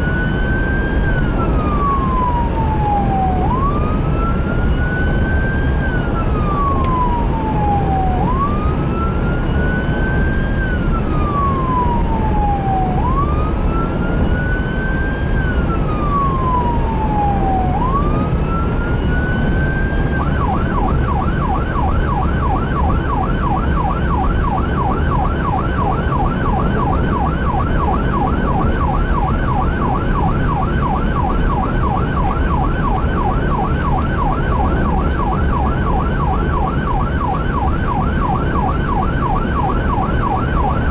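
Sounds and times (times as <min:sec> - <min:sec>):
emergency vehicle siren: 0:00.0 - 0:40.9
engine and road noise rumble: 0:00.0 - 0:40.9.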